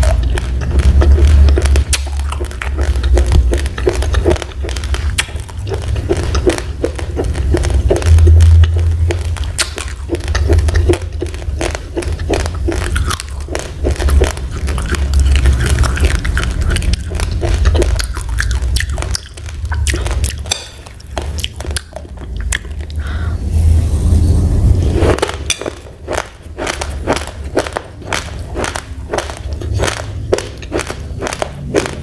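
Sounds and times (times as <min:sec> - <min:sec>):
chewing uncooked rice: 0:00.0 - 0:23.1, 0:25.1 - 0:32.0.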